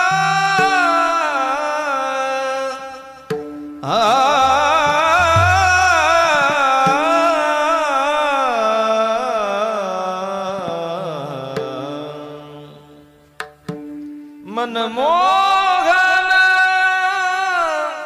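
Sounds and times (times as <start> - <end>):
man singing wordless melody: 0.0 - 13.3, 14.4 - 18.0.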